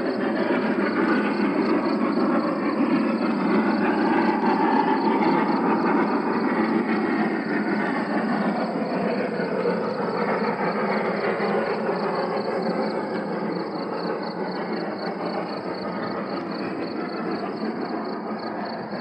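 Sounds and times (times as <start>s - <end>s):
train running: 0.0s - 19.0s.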